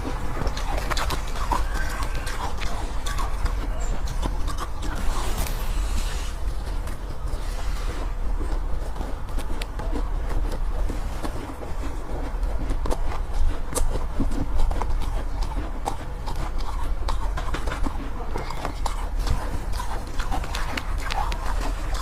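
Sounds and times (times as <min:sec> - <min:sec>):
chewing crunchy ice: 0:00.0 - 0:22.0.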